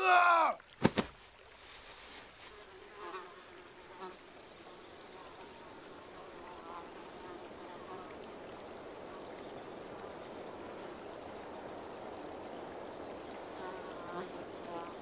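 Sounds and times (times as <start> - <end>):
creek water running: 0.0 - 15.0
insects buzzing: 0.7 - 15.0.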